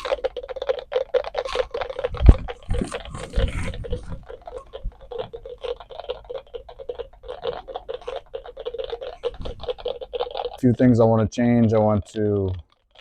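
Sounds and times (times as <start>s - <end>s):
electronic clicking ticks: 0.0s - 13.0s.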